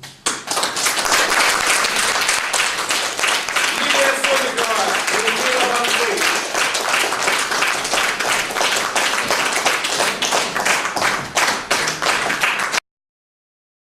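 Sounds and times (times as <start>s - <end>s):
audience applauding: 0.2s - 12.8s.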